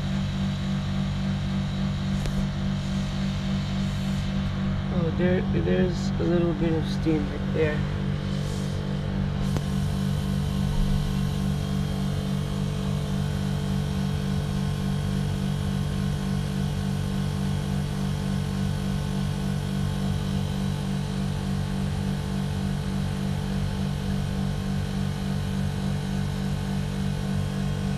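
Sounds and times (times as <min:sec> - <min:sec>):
air conditioner compressor humming: 0:00.0 - 0:27.9.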